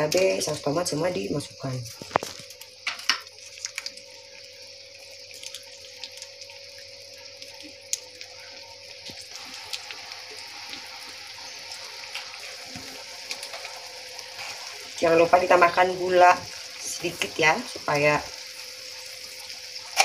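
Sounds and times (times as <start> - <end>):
liquid simmering and bubbling: 0.0 - 20.0.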